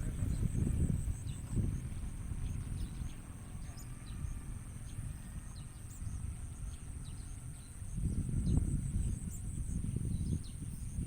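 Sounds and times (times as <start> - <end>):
low rumble on microphone: 0.0 - 11.0.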